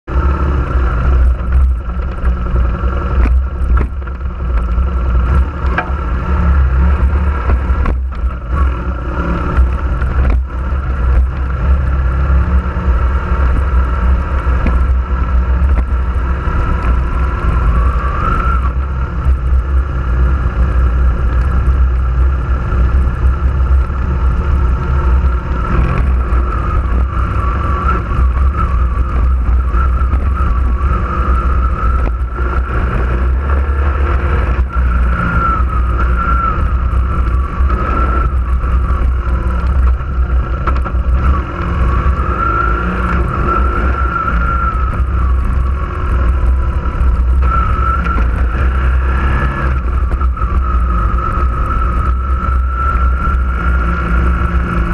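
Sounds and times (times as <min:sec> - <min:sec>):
off-road vehicle engine rumble: 0:00.0 - 0:54.9.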